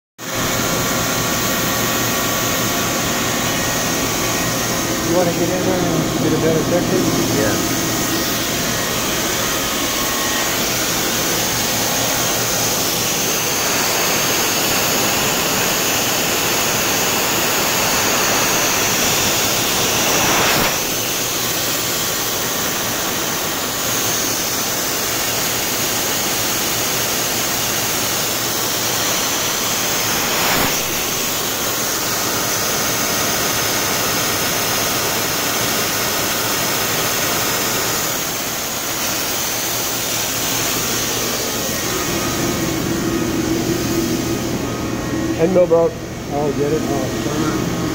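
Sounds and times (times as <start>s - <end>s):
milling machine cutting metal: 0.3s - 42.7s.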